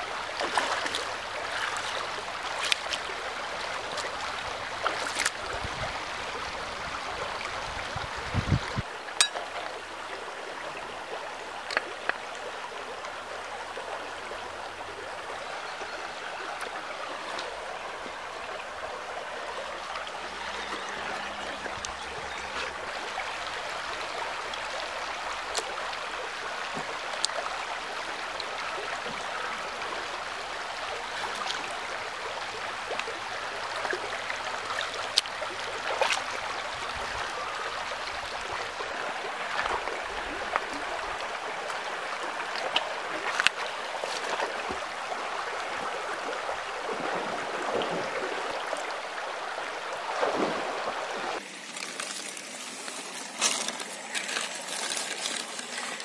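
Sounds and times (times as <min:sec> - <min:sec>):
small splashes: 0:00.0 - 0:06.5, 0:15.9 - 0:56.0
stream burbling over stones: 0:00.0 - 0:56.0.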